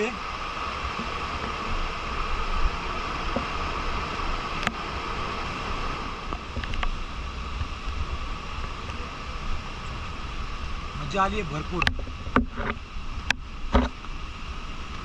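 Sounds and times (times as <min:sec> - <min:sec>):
waterfall rushing: 0:00.0 - 0:15.0
wind rumbling on microphone: 0:00.0 - 0:15.0.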